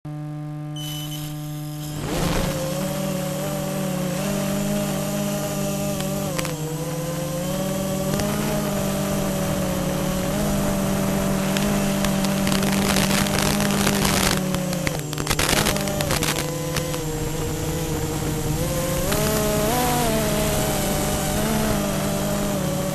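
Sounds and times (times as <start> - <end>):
quadcopter motors whining: 0.3 - 22.9
bursts of rushing noise: 1.4 - 22.2.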